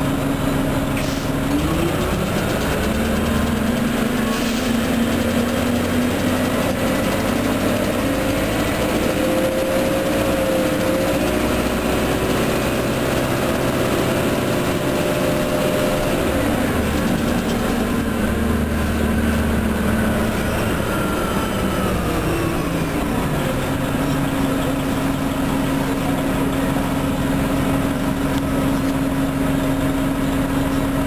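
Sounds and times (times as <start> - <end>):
bus engine running: 0.0 - 31.0
drivetrain whine: 0.0 - 31.0.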